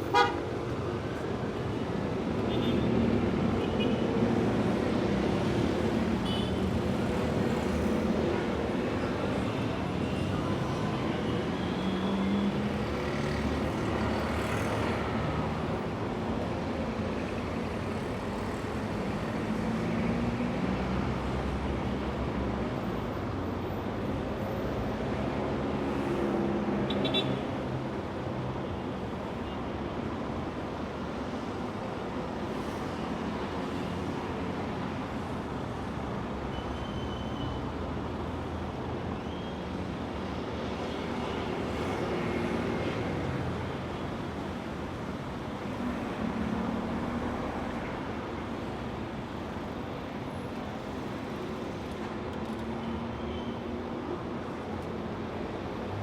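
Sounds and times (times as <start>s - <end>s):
street traffic passing: 0.0s - 56.0s.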